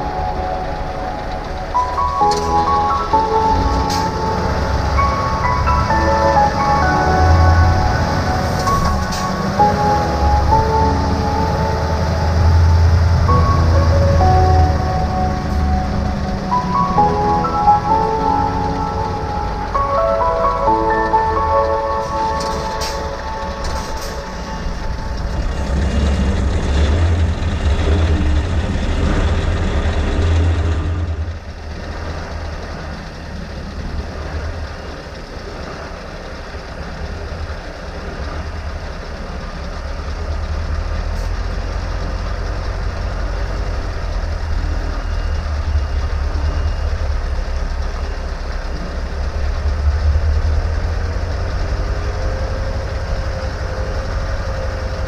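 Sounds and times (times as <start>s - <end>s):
road noise: 0.0s - 55.0s
truck diesel engine rumble: 0.0s - 55.0s.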